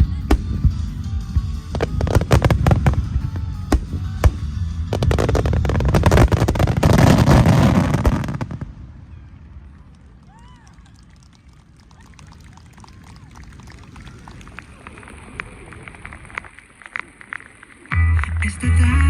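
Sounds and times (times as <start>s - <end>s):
fireworks bangs and crackling: 0.0s - 17.6s.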